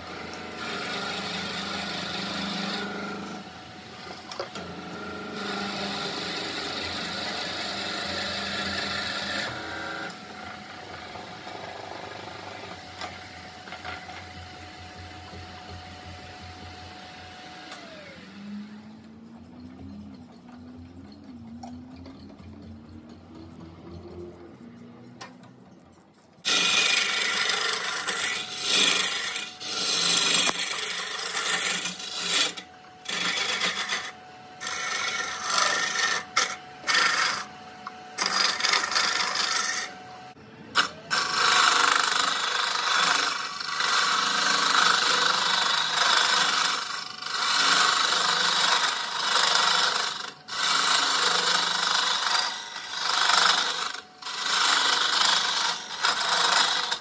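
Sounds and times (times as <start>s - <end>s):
lathe tool scraping wood: 0.0s - 19.0s, 26.4s - 57.0s.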